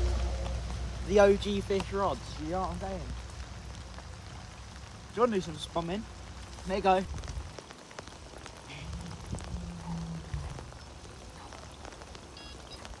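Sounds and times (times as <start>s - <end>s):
rain pattering on a lake: 0.0s - 13.0s.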